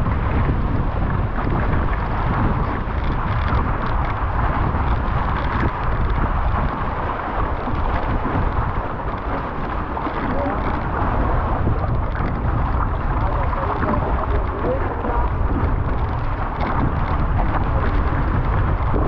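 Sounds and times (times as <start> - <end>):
water rushing past hulls: 0.0 - 19.0
wind buffeting microphone: 0.0 - 19.0.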